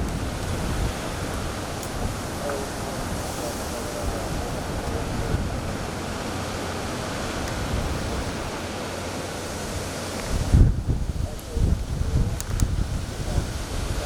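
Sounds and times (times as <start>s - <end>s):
strong wind blowing: 0.0s - 14.0s
wind buffeting microphone: 0.0s - 14.0s.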